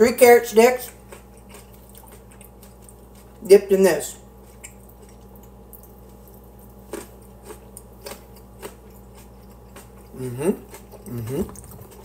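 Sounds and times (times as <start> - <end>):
person chewing raw carrot: 0.7 - 3.5, 4.2 - 12.0.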